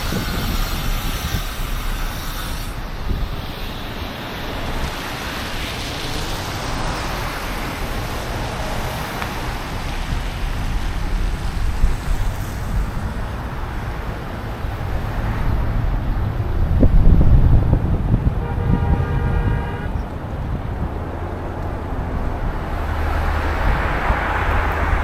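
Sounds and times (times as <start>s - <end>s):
passing vehicles rumble: 0.0s - 25.0s
road noise: 0.0s - 25.0s.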